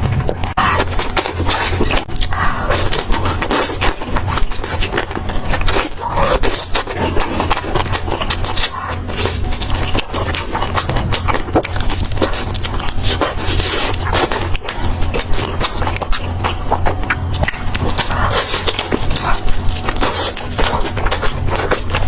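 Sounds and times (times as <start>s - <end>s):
chewing and crunching: 0.0s - 22.0s
steady low hum: 0.0s - 22.0s.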